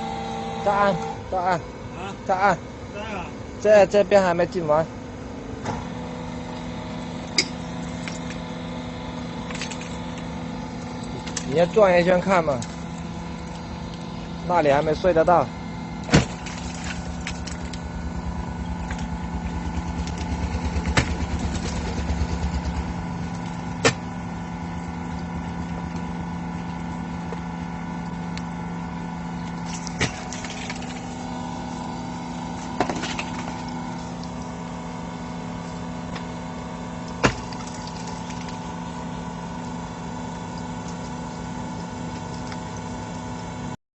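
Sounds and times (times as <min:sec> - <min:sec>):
hydraulic power unit running: 0:00.0 - 0:43.8.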